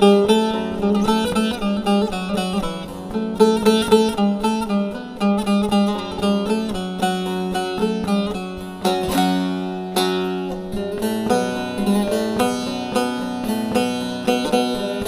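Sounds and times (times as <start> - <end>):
plucked string instrument melody: 0.0 - 15.0.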